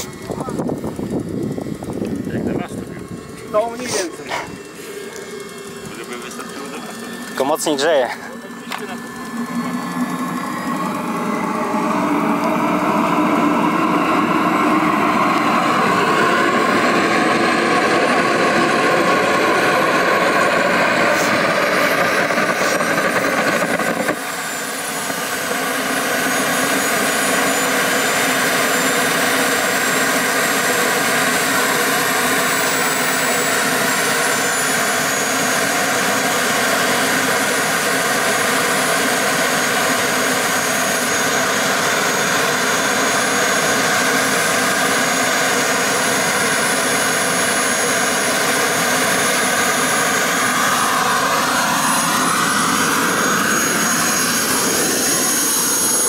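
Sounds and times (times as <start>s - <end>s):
turbine engine high whine: 0.0s - 56.0s.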